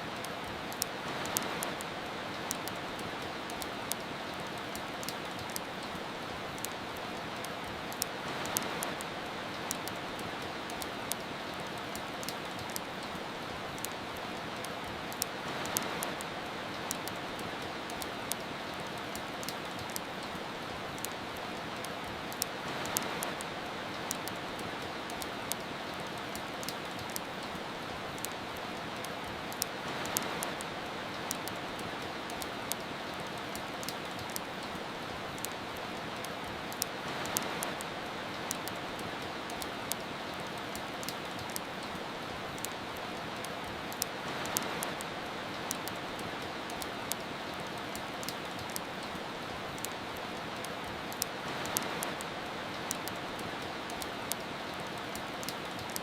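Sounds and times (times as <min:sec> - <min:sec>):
fireplace crackling: 0:00.0 - 0:56.0
soft rain: 0:00.0 - 0:56.0.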